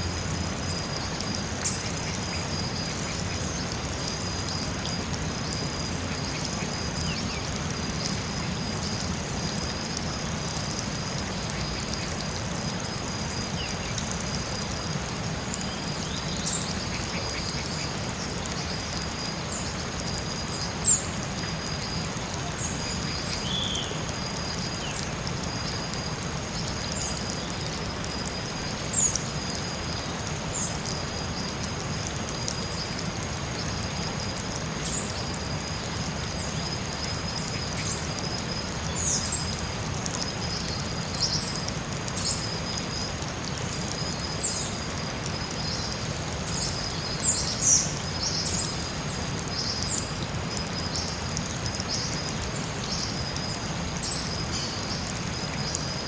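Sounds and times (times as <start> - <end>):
steady hiss of running water: 0.0 - 56.0.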